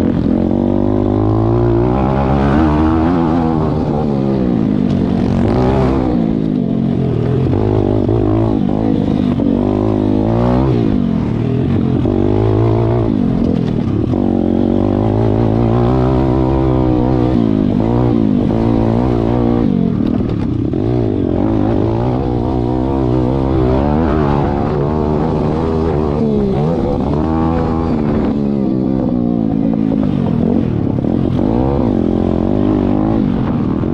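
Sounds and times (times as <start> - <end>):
pit bike engines revving: 0.0 - 33.9.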